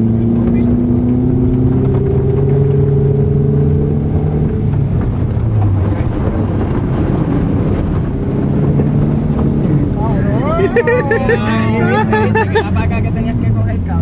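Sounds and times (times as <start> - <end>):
tyre and wind noise: 0.0 - 13.5
car engine pulling: 0.0 - 14.0.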